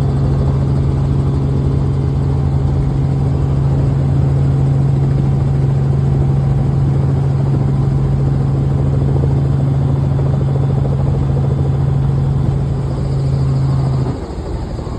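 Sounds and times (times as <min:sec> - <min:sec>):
helicopter engine and rotor drone: 0:00.0 - 0:14.9.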